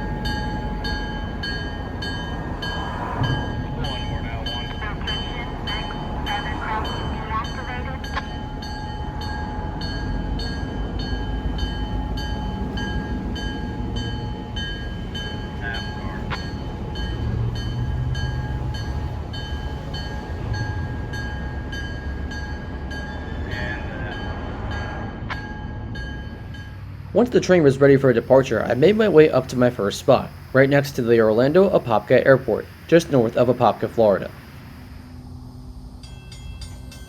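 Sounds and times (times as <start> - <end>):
diesel engine rumble: 0.0 - 37.0
locomotive bell ringing: 0.0 - 37.0.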